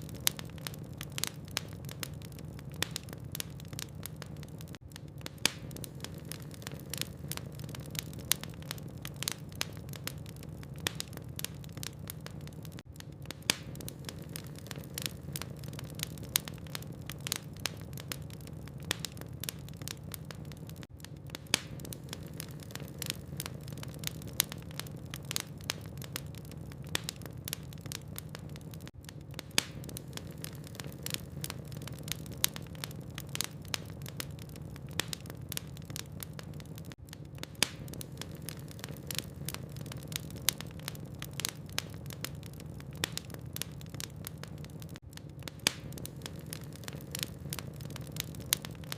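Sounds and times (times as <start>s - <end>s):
burning logs crackling and popping: 0.0s - 48.9s
fireplace flames rumbling: 0.0s - 48.9s.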